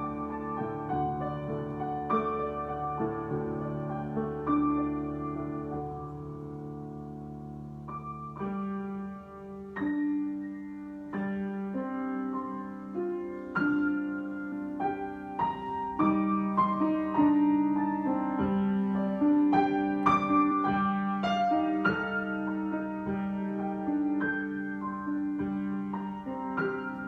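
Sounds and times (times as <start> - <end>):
solo piano improvisation: 0.0 - 27.0.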